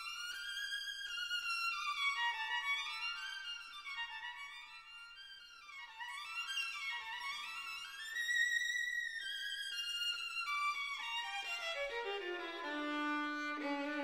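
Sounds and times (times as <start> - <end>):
slow violin melody: 0.0 - 14.0.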